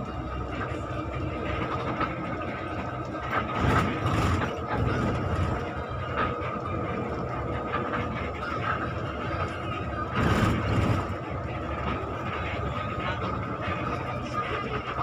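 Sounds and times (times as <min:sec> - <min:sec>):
bus engine running: 0:00.0 - 0:15.0
road noise rumble: 0:00.0 - 0:15.0.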